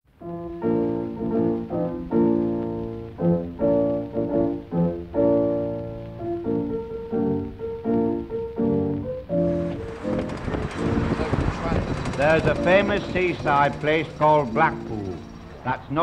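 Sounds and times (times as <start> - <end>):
piano chords: 0.1 - 16.0.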